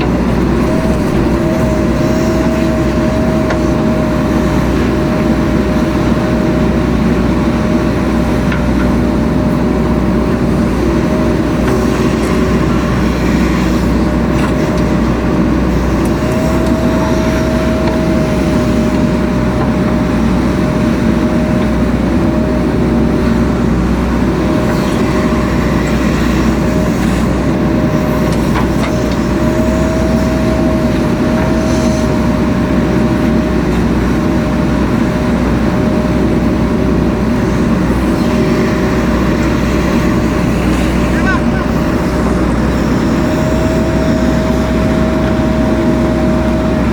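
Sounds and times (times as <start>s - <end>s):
diesel engine under load: 0.0s - 46.9s
steady whine: 0.0s - 46.9s.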